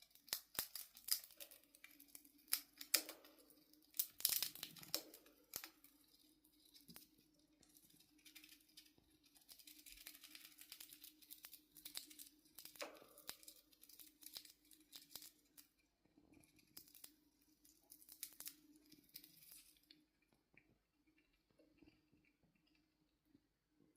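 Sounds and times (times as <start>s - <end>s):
chipmunk gnawing peanut shells: 0.0s - 22.9s.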